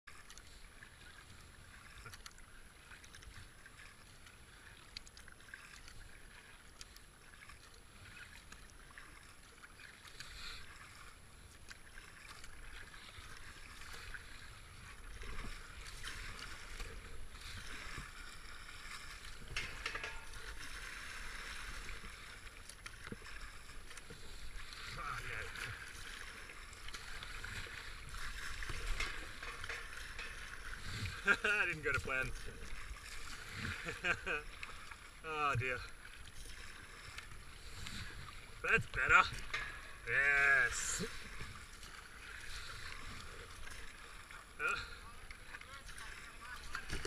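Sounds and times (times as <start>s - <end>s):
paddle splashing water: 0.1s - 47.0s.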